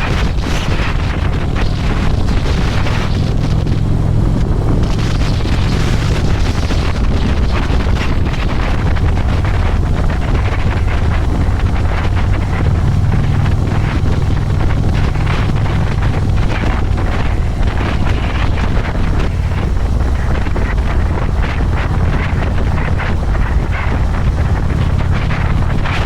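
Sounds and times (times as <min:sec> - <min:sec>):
motorcycle engine rumble: 0:00.0 - 0:26.0
wind buffeting microphone: 0:00.0 - 0:26.0.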